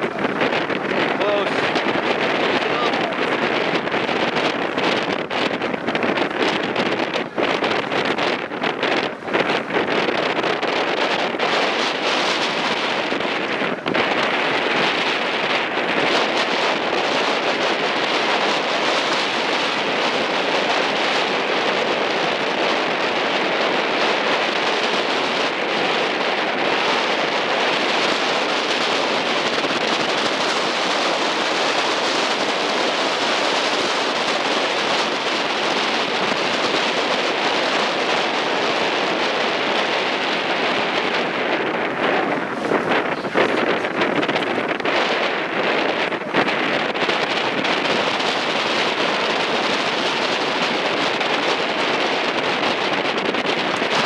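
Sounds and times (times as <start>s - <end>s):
water rushing past: 0.0s - 54.0s
wind noise on microphone: 0.0s - 54.0s.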